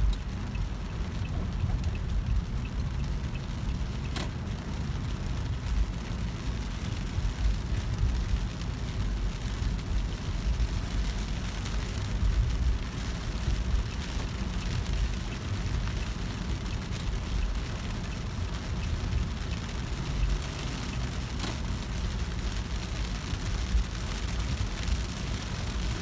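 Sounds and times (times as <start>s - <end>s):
rain hissing on car: 0.0s - 26.0s
raindrops ticking on windshield: 0.0s - 26.0s
road and engine rumble: 0.0s - 26.0s.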